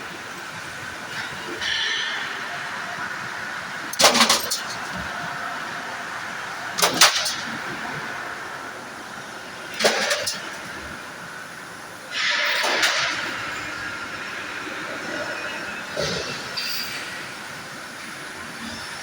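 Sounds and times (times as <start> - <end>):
roll-forming machine drone: 0.0 - 19.0.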